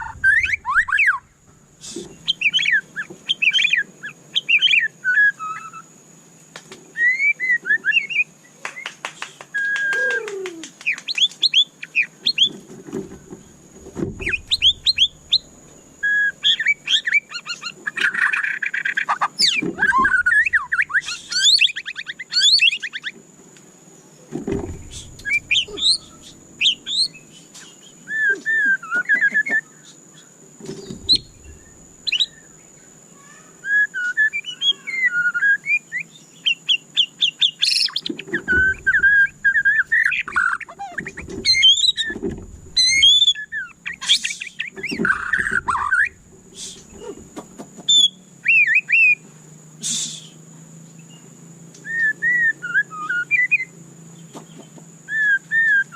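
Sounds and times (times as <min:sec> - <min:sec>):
bird singing whistles and chirps: 0:00.0 - 0:05.9, 0:06.9 - 0:12.6, 0:14.2 - 0:23.2, 0:24.6 - 0:32.9, 0:33.6 - 0:49.2, 0:49.8 - 0:55.9.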